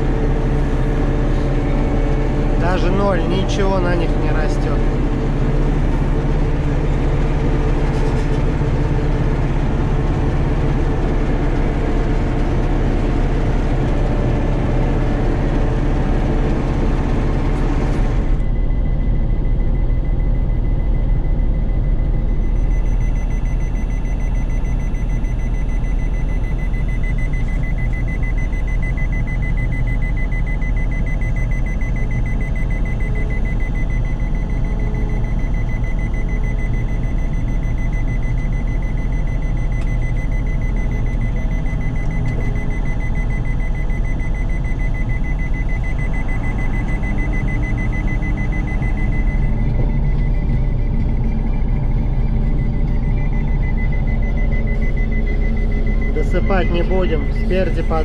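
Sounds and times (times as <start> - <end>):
diesel engine running: 0.0 - 58.0
rapid high-pitched warning beeping: 0.0 - 58.0.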